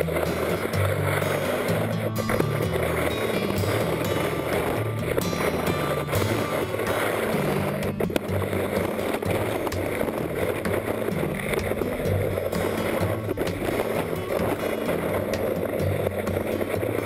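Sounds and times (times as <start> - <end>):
background music with bass: 0.0 - 17.0
skis scraping over snow: 0.0 - 17.0.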